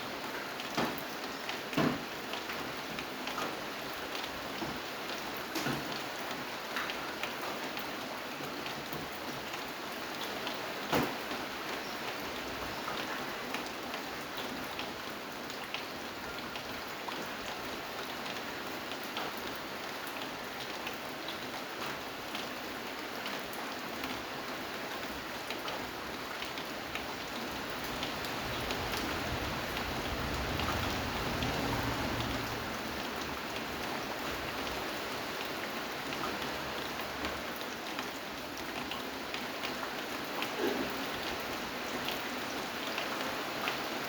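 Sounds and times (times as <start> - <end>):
steady rain hiss: 0.0 - 44.0
raindrops ticking on a surface: 0.1 - 44.0.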